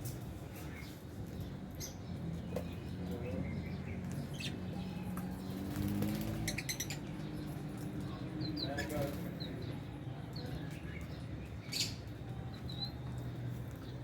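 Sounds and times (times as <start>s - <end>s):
birds chirping and squeaking: 0.0s - 9.8s, 10.5s - 12.9s.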